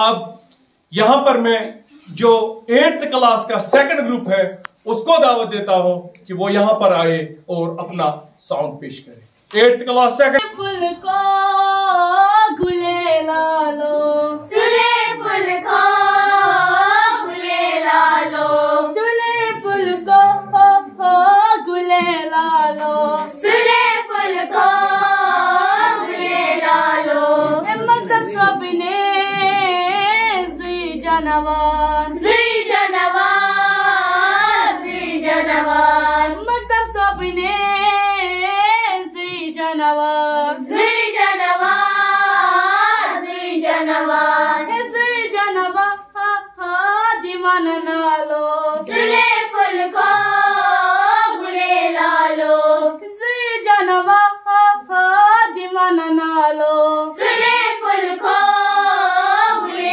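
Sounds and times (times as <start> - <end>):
girls singing into a microphone: 10.5 - 59.9.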